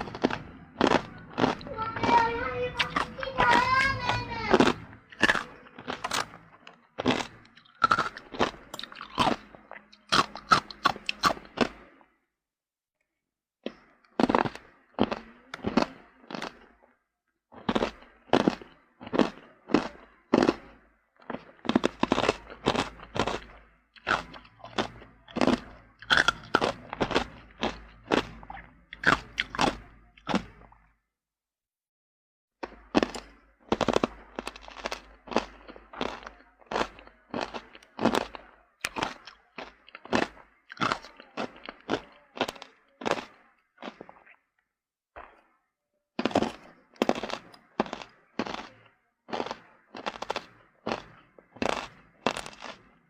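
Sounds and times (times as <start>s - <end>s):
ice being chewed: 0.0s - 12.1s, 13.6s - 30.9s, 32.6s - 45.5s, 46.2s - 53.0s.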